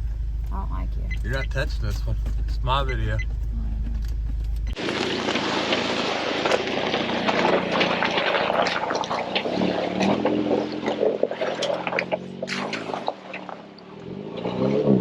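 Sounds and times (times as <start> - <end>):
engine running at low revs: 0.0 - 15.0
vehicle rattles and knocks: 1.1 - 13.9.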